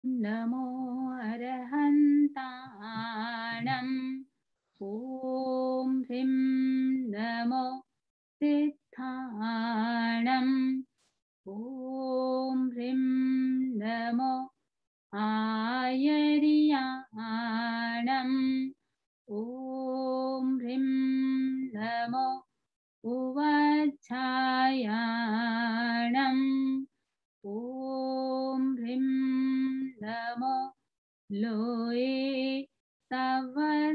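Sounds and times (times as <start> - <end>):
woman singing devotional chant: 0.0 - 33.9.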